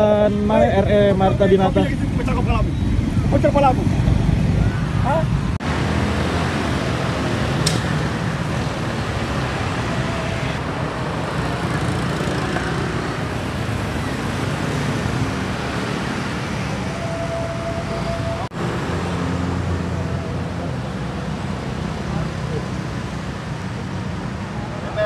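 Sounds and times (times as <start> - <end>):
cars and motorbikes passing: 0.0 - 25.0.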